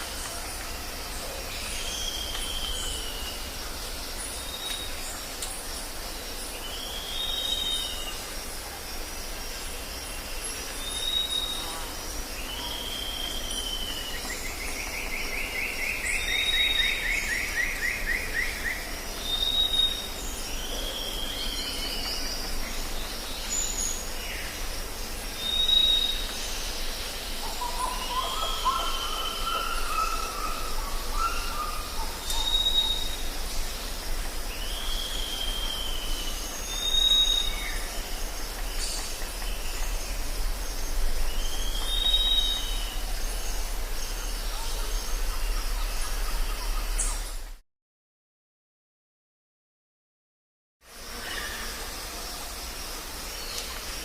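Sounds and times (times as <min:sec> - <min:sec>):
insect drone: 0:00.0 - 0:47.6, 0:50.8 - 0:54.0.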